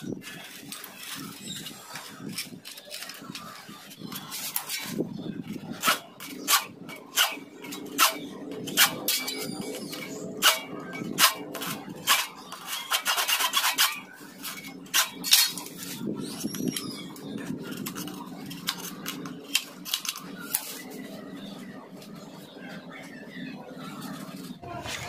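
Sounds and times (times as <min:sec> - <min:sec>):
hacksaw scraping bamboo: 0:00.3 - 0:21.0.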